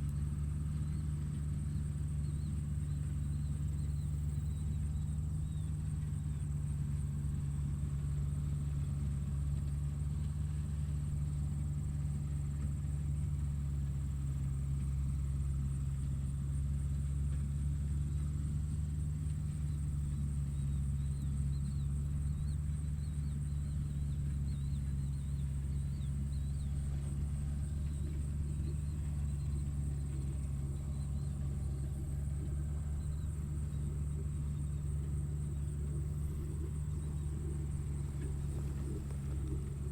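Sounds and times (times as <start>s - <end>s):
tractor engine rumbling: 0.0s - 39.9s.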